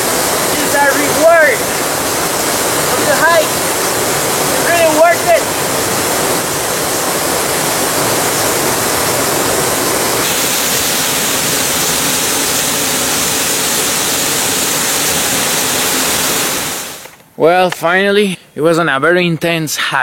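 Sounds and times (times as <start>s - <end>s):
waterfall roaring: 0.0s - 17.1s.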